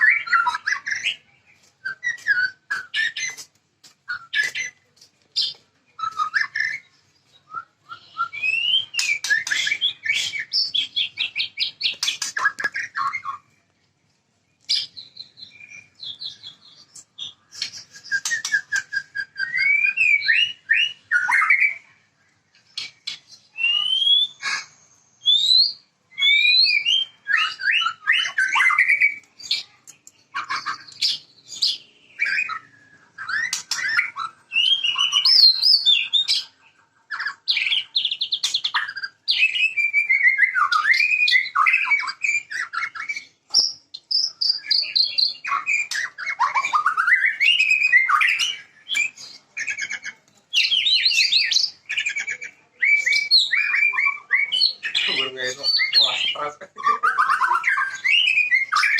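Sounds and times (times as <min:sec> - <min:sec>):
bird singing varied song: 0:00.0 - 0:58.9.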